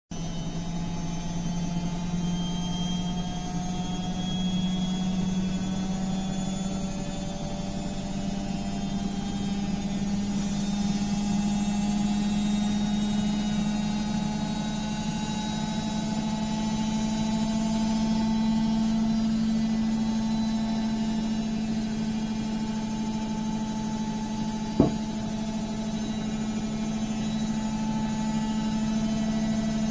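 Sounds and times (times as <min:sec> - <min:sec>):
washing machine spinning: 0:00.2 - 0:29.9.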